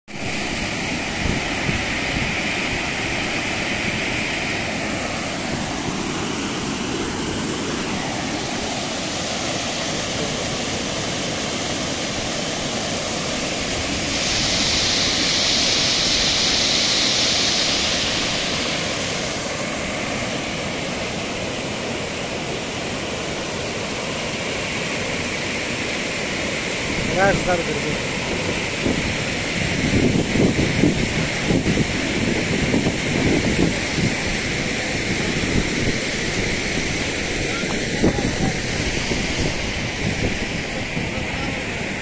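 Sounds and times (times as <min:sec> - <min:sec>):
water rushing over dam: 0:00.1 - 0:42.0.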